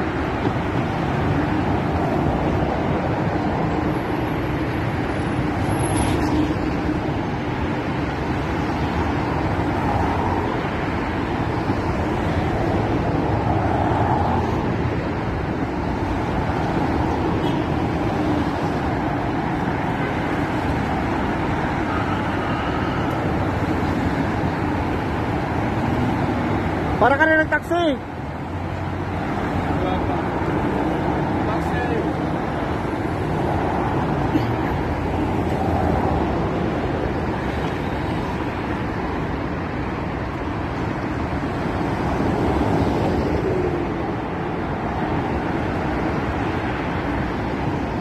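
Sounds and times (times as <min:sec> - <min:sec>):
dense road traffic: 0:00.0 - 0:48.0.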